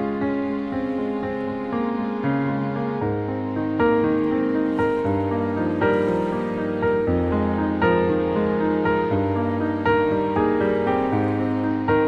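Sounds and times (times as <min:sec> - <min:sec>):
background music held notes: 0:00.0 - 0:12.0.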